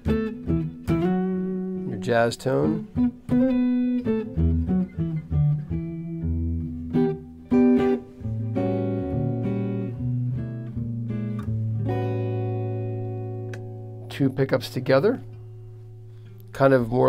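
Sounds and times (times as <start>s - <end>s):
electric guitar notes and chords: 0.0s - 17.0s.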